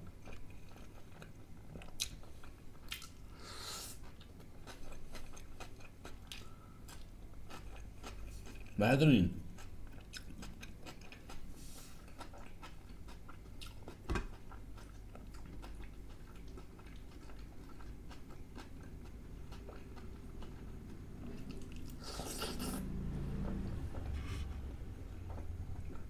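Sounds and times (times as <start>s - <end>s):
close-miked chewing: 0.0s - 3.3s, 4.0s - 8.8s, 9.5s - 26.0s.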